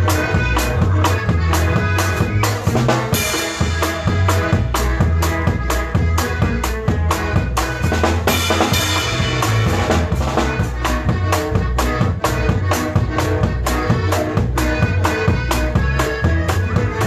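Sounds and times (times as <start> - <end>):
live instrumental dance music: 0.0 - 17.0.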